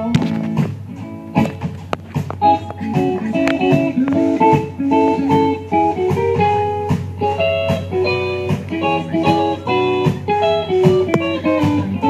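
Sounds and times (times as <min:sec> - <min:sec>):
fiddle band instrumental: 0:00.0 - 0:12.0
plucked guitar: 0:00.0 - 0:12.0
steady bass: 0:00.0 - 0:12.0.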